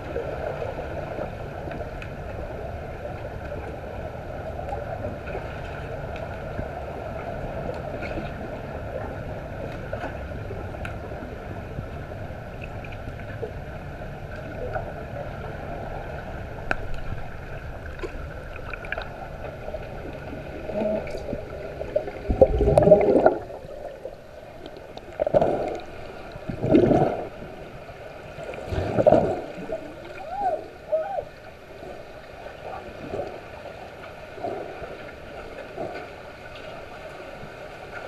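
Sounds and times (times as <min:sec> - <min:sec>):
underwater rumble of water: 0:00.0 - 0:38.0.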